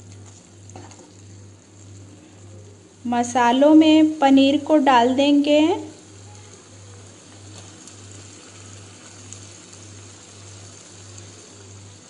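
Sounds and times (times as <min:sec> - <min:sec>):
light steady hiss: 0:00.0 - 0:12.0.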